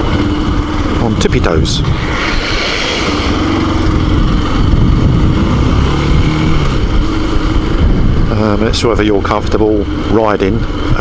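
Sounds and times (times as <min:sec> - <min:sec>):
motorcycle engine: 0:00.0 - 0:11.0
wind rush on microphone: 0:00.0 - 0:11.0.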